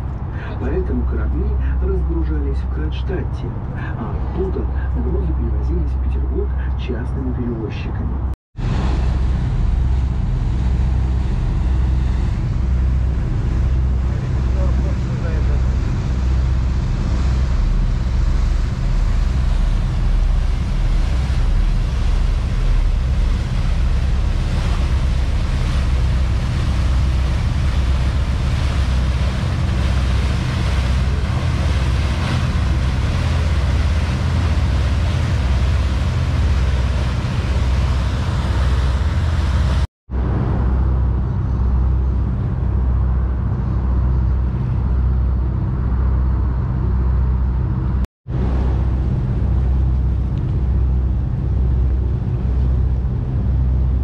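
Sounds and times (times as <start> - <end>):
water rushing along hull: 0.0 - 7.6, 8.6 - 54.0
boat engine humming: 0.0 - 54.0
wind on microphone: 8.1 - 54.0.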